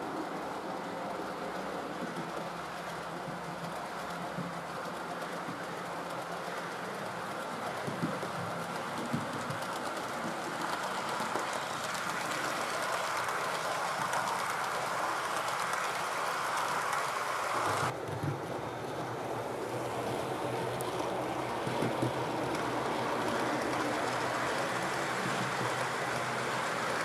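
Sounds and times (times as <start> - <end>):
model train whirring on rails: 0.0 - 27.0.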